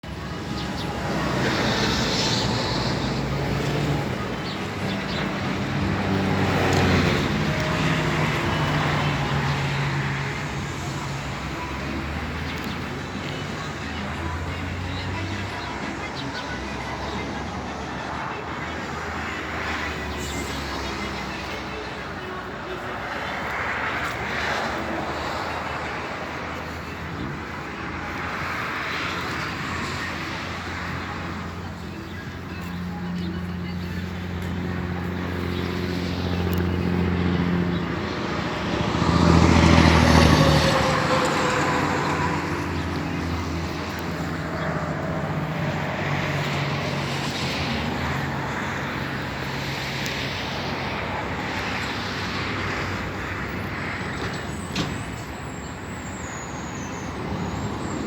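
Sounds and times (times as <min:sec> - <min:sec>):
airplane engines running: 0:00.0 - 0:58.0
traffic noise: 0:00.0 - 0:58.0.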